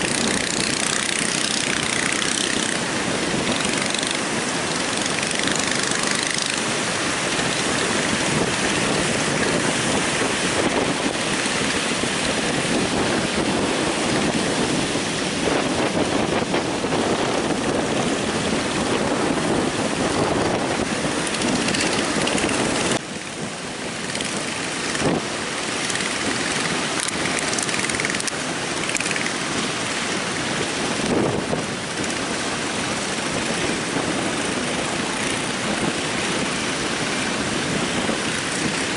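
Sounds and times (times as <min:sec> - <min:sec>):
heavy surf breaking: 0:00.0 - 0:38.9
wind buffeting microphone: 0:00.0 - 0:38.9.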